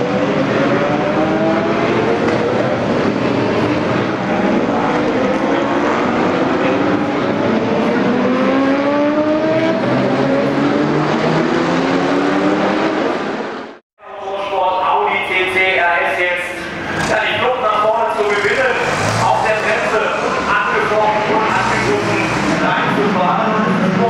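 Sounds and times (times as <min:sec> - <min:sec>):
race car engines accelerating: 0:00.0 - 0:13.8, 0:16.4 - 0:24.0.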